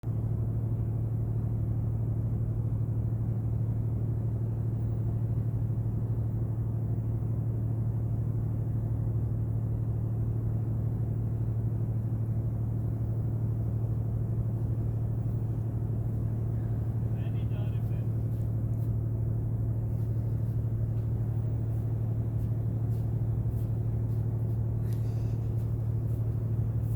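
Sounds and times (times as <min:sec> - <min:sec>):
ship engine droning: 0:00.0 - 0:26.9.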